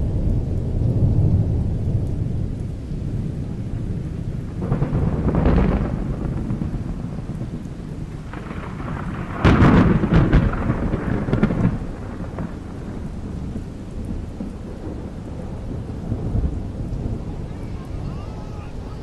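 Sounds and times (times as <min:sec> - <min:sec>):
low storm noise: 0:00.0 - 0:19.0
thunder cracking and rumbling: 0:00.0 - 0:19.0.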